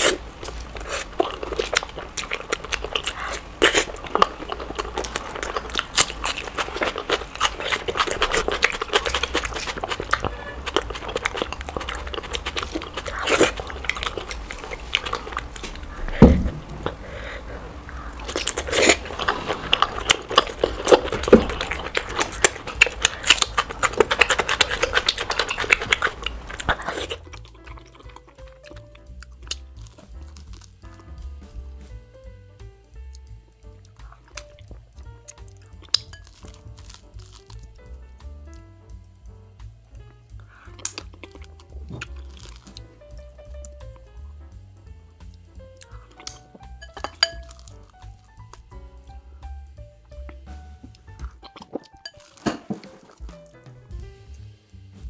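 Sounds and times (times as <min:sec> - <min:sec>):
lip smacking: 0:00.0 - 0:31.2, 0:33.0 - 0:37.8, 0:40.3 - 0:44.5, 0:45.2 - 0:54.5
crunching of food: 0:00.0 - 0:32.0, 0:32.9 - 0:38.7, 0:40.3 - 0:44.3, 0:45.2 - 0:54.4
wet chewing: 0:00.0 - 0:32.0, 0:32.8 - 0:39.0, 0:39.9 - 0:54.5.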